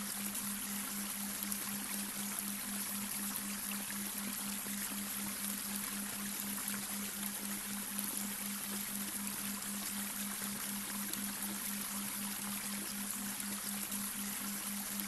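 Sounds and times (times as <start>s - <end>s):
brook water trickling and splashing: 0.0s - 15.0s.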